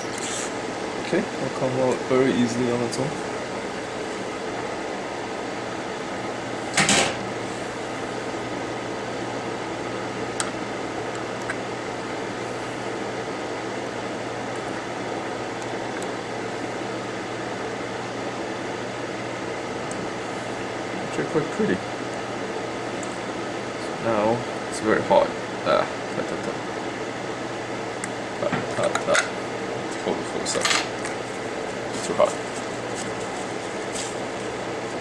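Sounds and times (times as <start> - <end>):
hot air fan whirring: 0.0 - 35.0.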